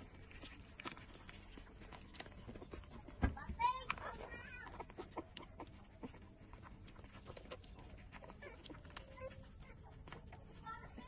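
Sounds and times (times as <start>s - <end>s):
puppies suckling: 0.0s - 11.0s
puppy whining: 0.0s - 11.0s.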